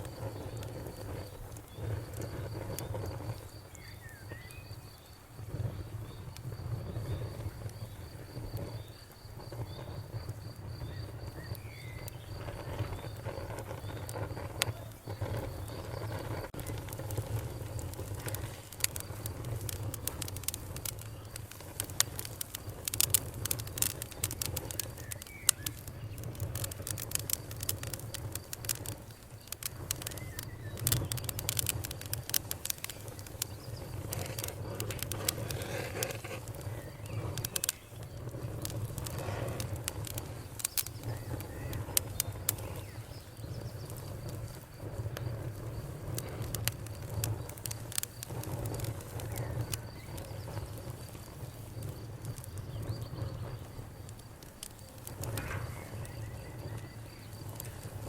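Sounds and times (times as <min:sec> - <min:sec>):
bonfire crackling and popping: 0:00.0 - 0:58.0
crickets chirping: 0:00.0 - 0:58.0.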